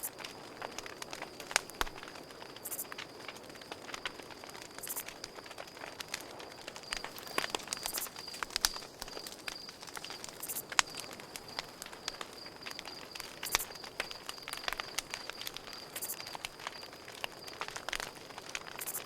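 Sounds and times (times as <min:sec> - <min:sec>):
campfire crackling and popping: 0:00.0 - 0:19.0
cricket chirping: 0:00.0 - 0:19.0.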